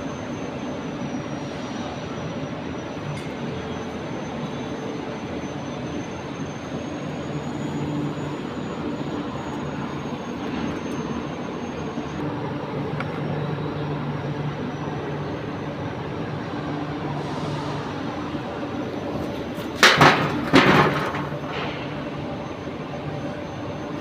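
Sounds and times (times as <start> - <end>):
industrial plant roar: 0.0 - 24.0.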